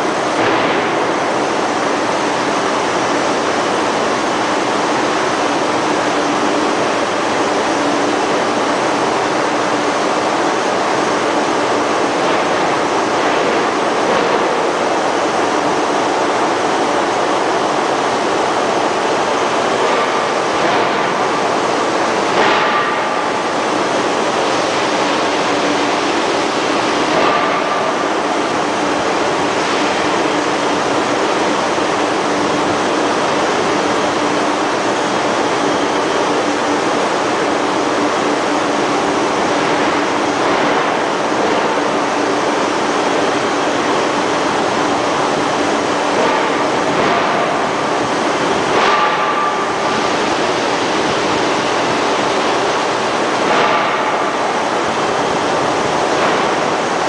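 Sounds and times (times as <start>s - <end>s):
factory machinery roar: 0.0s - 57.0s.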